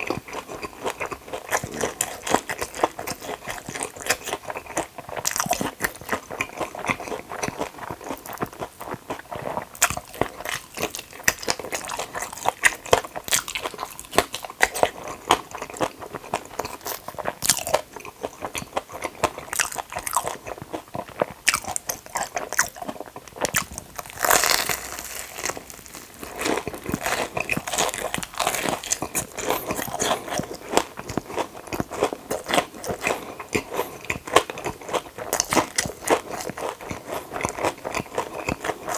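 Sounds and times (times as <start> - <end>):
crunchy food chewing: 0.0 - 38.9.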